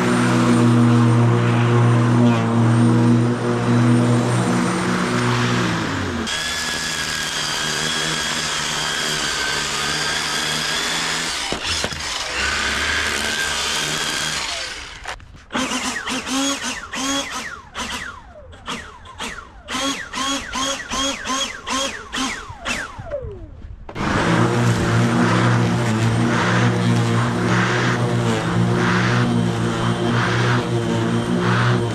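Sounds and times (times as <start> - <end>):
string trimmer motor whining: 0.0 - 31.9.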